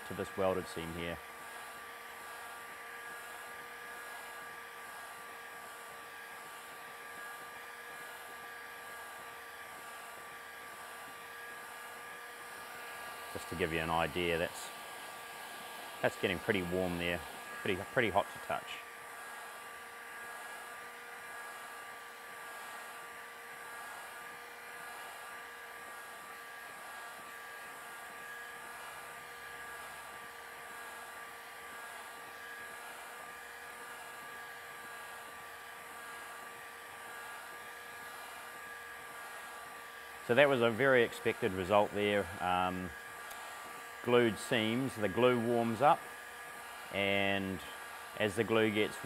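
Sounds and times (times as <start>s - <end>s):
faint motor whine: 0.0s - 49.0s
heat gun fan hissing: 0.0s - 49.0s.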